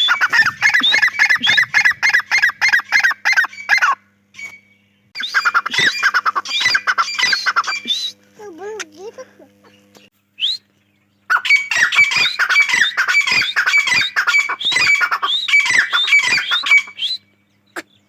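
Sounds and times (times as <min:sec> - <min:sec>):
francolin calling: 0:00.0 - 0:08.4, 0:11.3 - 0:18.0.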